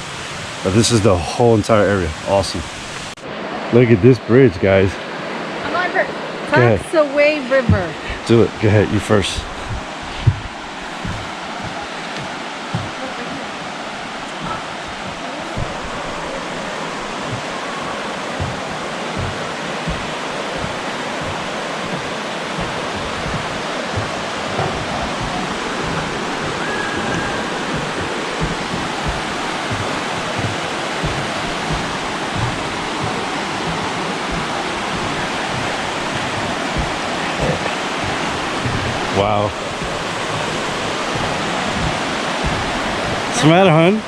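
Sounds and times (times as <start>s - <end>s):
river rapids rushing: 0.0s - 3.8s, 4.7s - 44.0s
soft low thumps: 7.6s - 44.0s.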